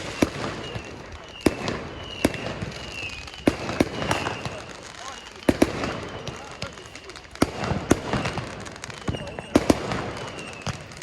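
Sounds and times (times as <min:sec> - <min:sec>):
distant fireworks din: 0:00.0 - 0:11.0
high firework whistles: 0:00.0 - 0:11.0
sharp firework bangs: 0:00.0 - 0:11.0.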